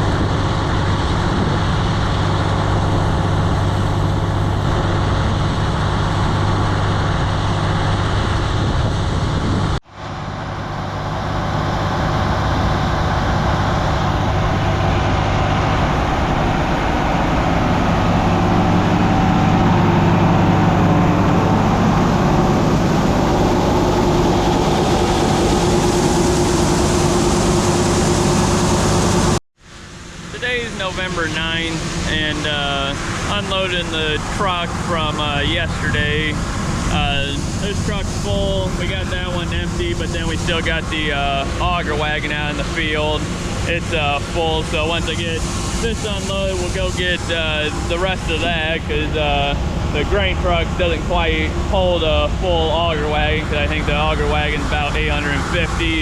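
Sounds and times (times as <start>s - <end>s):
farm machinery engine running: 0.0s - 56.0s.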